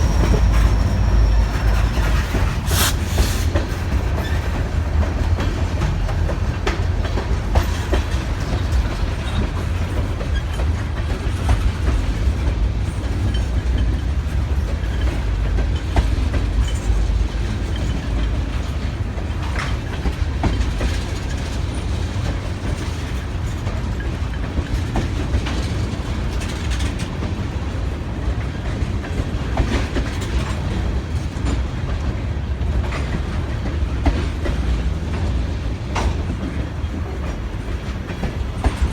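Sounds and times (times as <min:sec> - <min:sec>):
freight train rolling past: 0:00.0 - 0:38.9
train wheels clicking over rail joints: 0:00.0 - 0:38.9.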